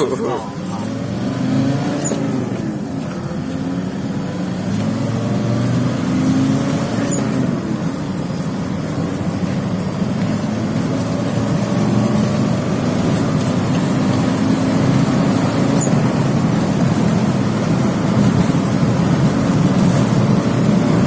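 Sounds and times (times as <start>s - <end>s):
van engine drone: 0.0s - 21.0s.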